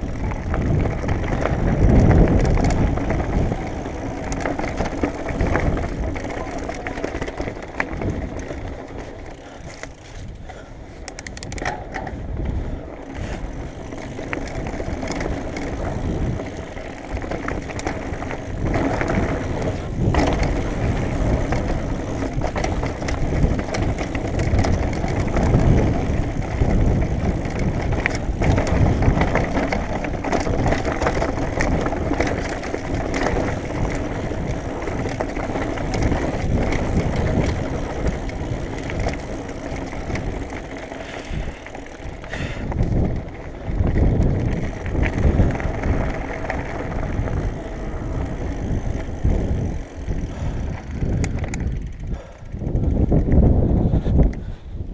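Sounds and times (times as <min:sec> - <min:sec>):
tyre noise on dirt: 0:00.0 - 0:53.9
bike knocking and rattling: 0:00.0 - 0:54.6
wind rumbling on microphone: 0:00.0 - 0:54.9.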